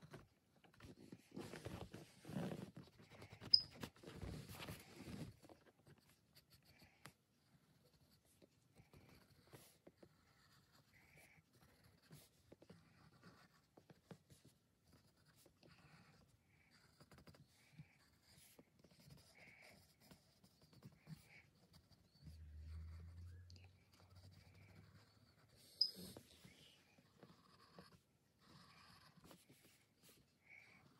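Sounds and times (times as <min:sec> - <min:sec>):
pencil scratching on paper: 0:00.8 - 0:30.9.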